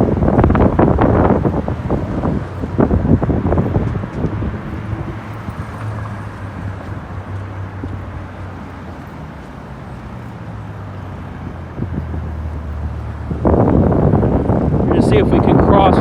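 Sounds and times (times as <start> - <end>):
cars passing: 0.0 - 16.0
low hum of traffic: 0.0 - 16.0.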